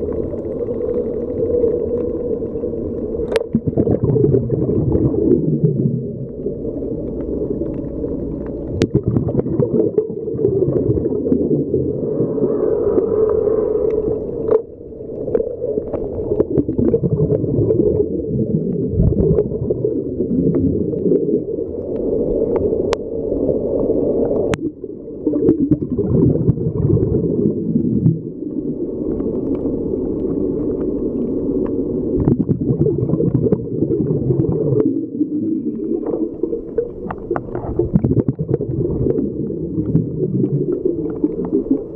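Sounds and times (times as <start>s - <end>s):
muffled underwater rumble: 0.0s - 41.9s.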